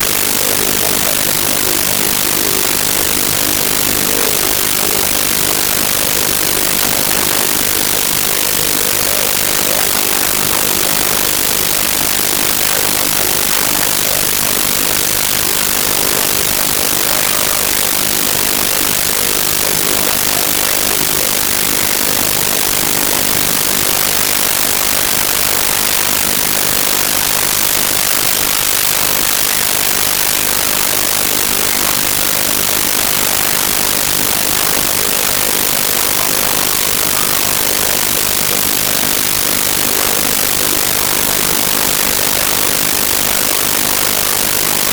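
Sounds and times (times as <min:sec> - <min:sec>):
loud static hiss: 0:00.0 - 0:44.9.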